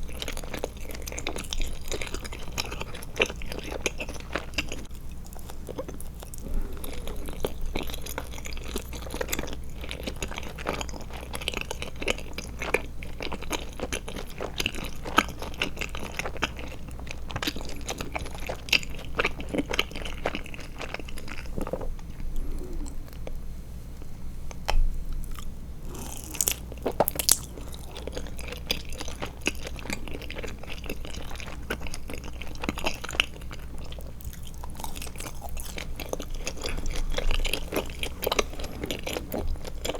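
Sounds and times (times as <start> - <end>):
chewing gummy candy: 0.0 - 23.4, 24.5 - 39.9
steady low hum: 0.0 - 39.9.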